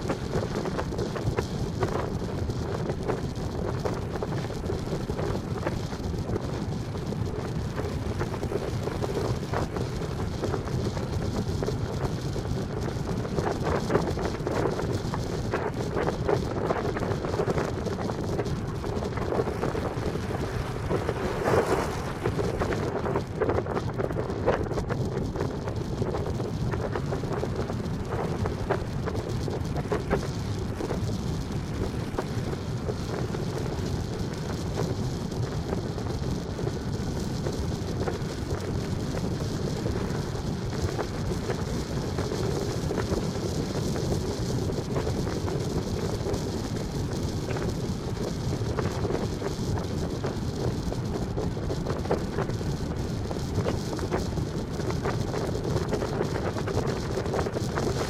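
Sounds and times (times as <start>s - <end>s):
low rumble: 0.0s - 50.7s
small crackles: 0.0s - 58.0s
wind noise on microphone: 0.0s - 58.0s.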